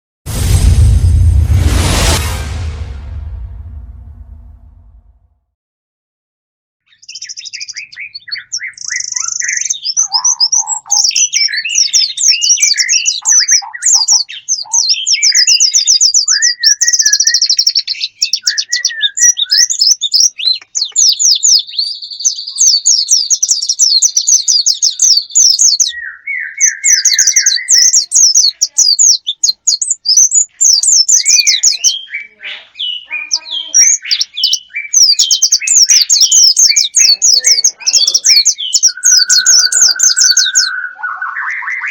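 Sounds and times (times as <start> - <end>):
bird song with trills and chirps: 6.8 - 41.9.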